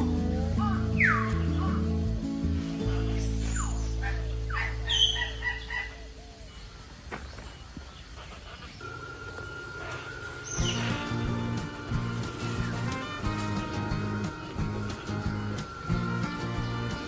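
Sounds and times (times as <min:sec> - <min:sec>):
low steady hum: 0:00.0 - 0:17.0
bird chirps: 0:02.7 - 0:17.0.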